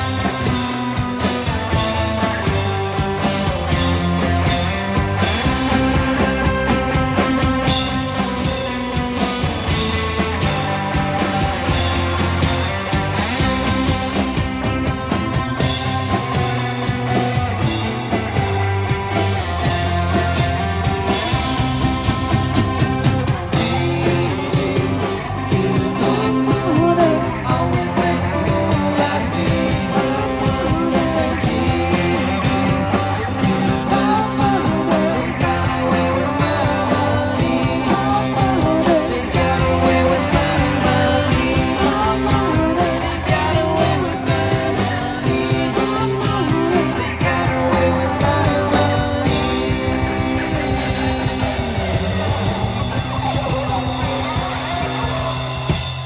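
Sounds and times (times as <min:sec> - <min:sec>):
bass guitar: 0:00.0 - 0:56.0
electric guitar: 0:00.0 - 0:56.0
steady drum beat: 0:00.0 - 0:56.0.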